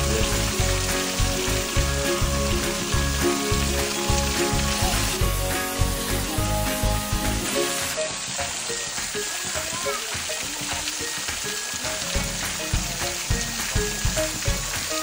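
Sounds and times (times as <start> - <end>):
background music: 0.0 - 15.0
waterfall splashing on rocks: 0.0 - 15.0.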